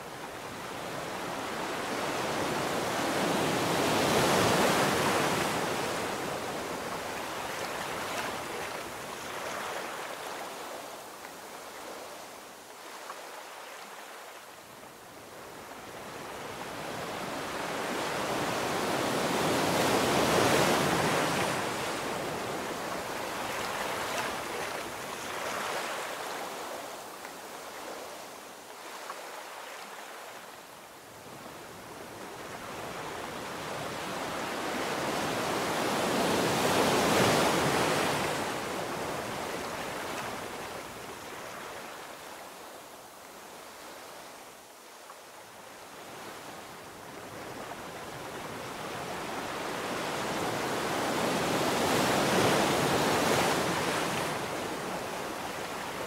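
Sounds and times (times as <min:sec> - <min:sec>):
ocean waves on beach: 0:00.0 - 0:56.0.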